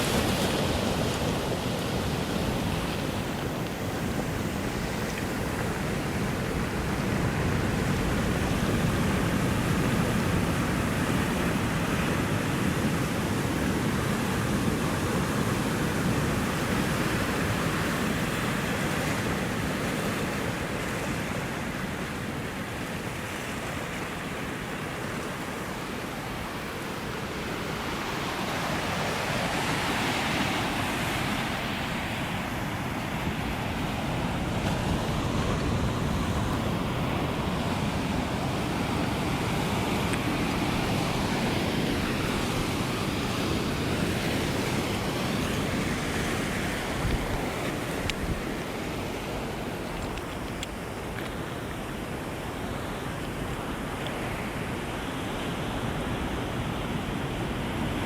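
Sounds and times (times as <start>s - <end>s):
ocean surf washing: 0.0s - 58.0s.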